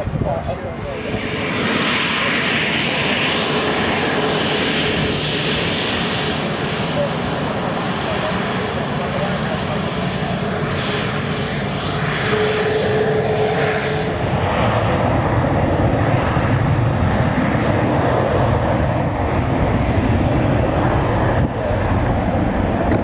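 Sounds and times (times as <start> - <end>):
aircraft engines running: 0.0 - 23.0.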